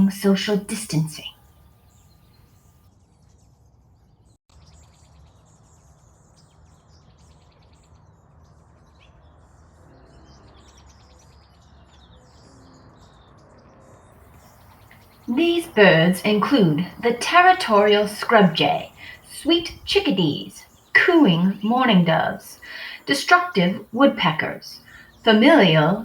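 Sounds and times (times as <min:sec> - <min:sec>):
birds chirping and singing: 0:00.0 - 0:26.0.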